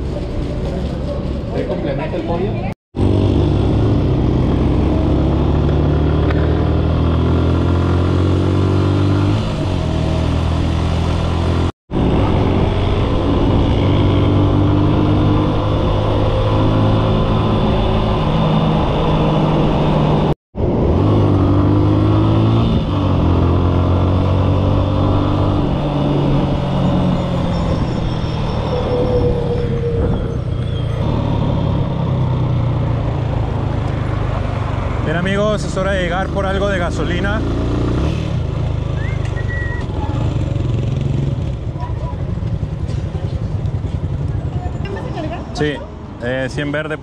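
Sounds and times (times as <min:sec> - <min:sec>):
motorcycle engine revving: 0:03.0 - 0:44.8.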